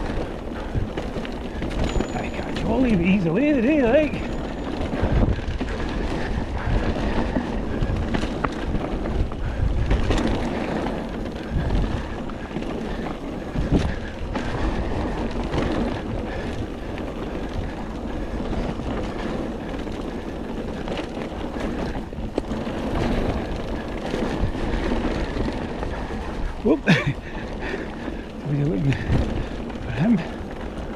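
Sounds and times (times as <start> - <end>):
bike frame rattle: 0.0 - 30.9
bike tyre rumble: 0.0 - 30.9
wind noise on microphone: 0.0 - 30.9.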